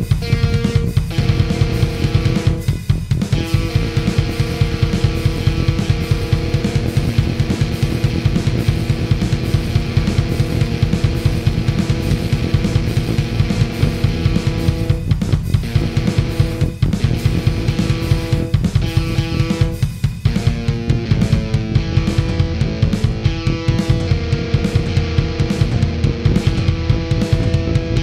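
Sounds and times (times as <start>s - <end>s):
distorted guitar chords: 0.0s - 28.0s
fast dense drumming: 0.0s - 28.0s
heavy metal music: 0.0s - 28.0s.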